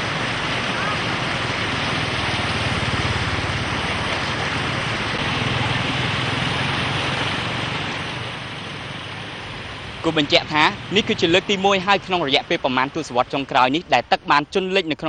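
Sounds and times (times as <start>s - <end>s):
broad rushing noise: 0.0s - 15.0s
engine running steadily: 0.0s - 15.0s.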